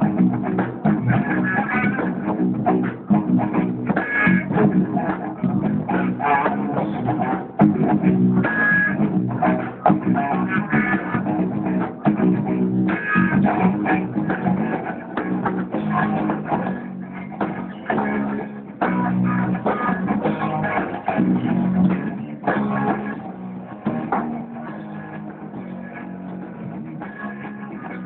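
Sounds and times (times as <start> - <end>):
bass guitar: 0.0 - 28.0
drums: 0.0 - 28.0
electric guitar: 0.0 - 28.0.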